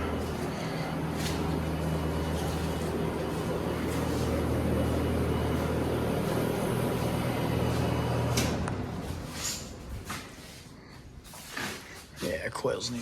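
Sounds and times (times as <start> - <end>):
condenser units humming: 0.0 - 13.0.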